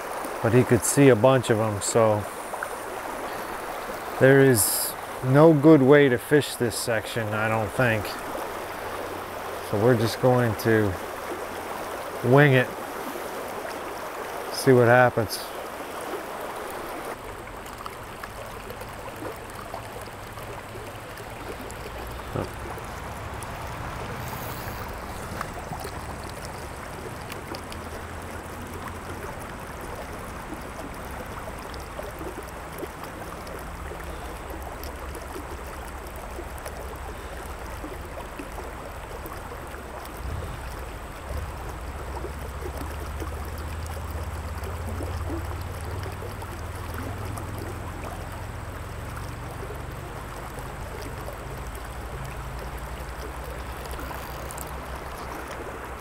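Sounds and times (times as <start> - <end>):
creek water flowing: 0.0 - 56.0.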